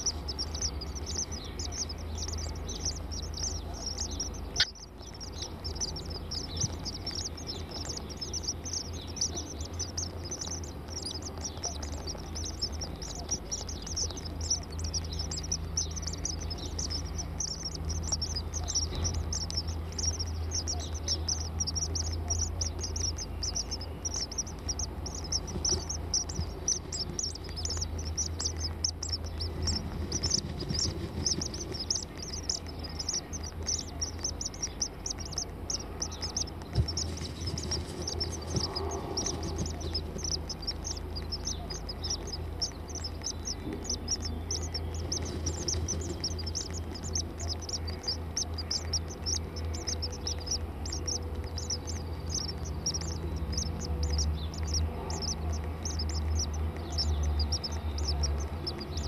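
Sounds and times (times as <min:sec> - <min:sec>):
high-pitched bird chirping: 0:00.0 - 0:59.0
low steady hum: 0:00.0 - 0:59.0.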